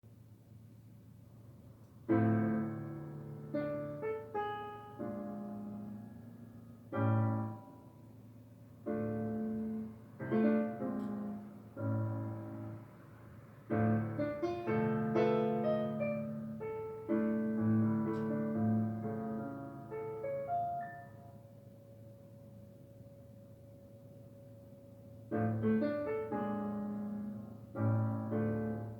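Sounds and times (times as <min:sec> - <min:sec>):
piano music: 0:02.1 - 0:28.9.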